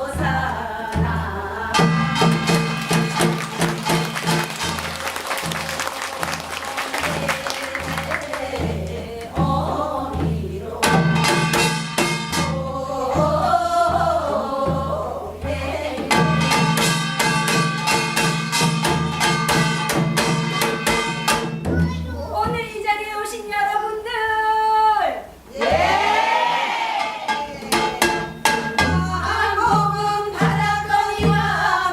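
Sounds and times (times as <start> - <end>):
steady drum beats: 0.0 - 22.8, 25.6 - 31.9.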